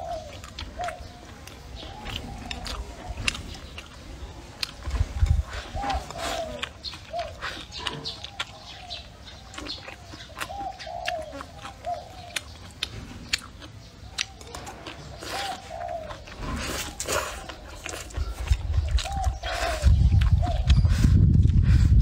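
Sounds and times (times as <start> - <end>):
bird calls: 0.0 - 21.2
chewing and lip smacks: 0.0 - 21.9.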